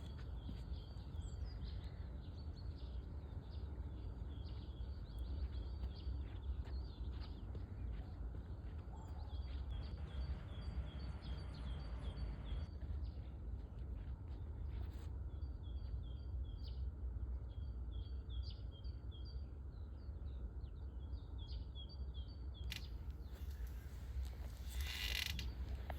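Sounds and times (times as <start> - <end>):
steady low rumble: 0.0 - 21.5
small songbirds chirping: 0.0 - 25.9.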